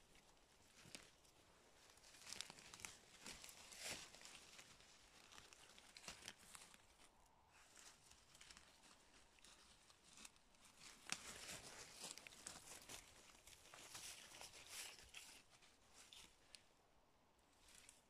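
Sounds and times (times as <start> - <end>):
dry grass and leaves crackling: 0.0 - 18.0.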